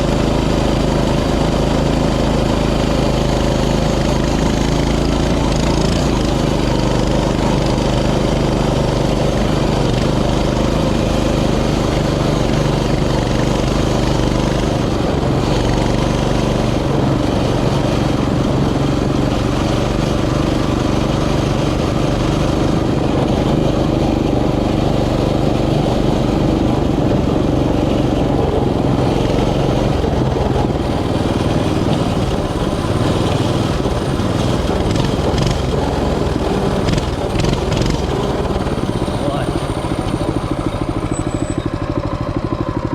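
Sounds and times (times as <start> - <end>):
broad rushing noise: 0.0 - 41.1
small engine running: 0.0 - 42.9.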